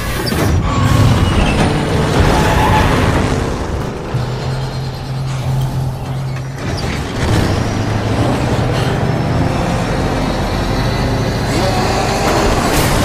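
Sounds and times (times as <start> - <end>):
action film score: 0.0 - 13.0
heavy truck engines running: 0.0 - 13.0.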